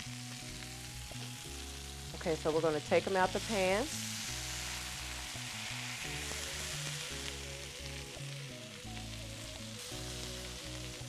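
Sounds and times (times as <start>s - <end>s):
background music: 0.0s - 11.0s
meat sizzling in hot oil: 0.0s - 11.0s.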